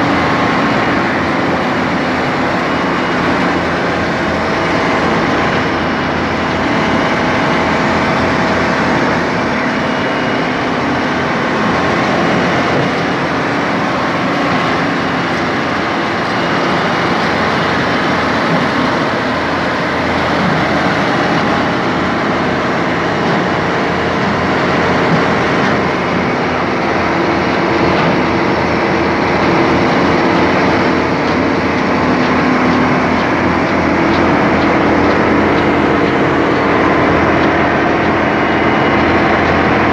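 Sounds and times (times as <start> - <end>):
drilling machine running: 0.0 - 39.9.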